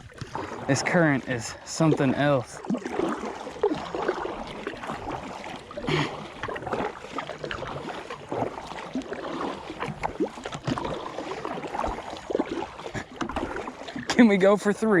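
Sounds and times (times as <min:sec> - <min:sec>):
small water splashes: 0:00.0 - 0:15.0
water lapping against a hull: 0:00.0 - 0:15.0.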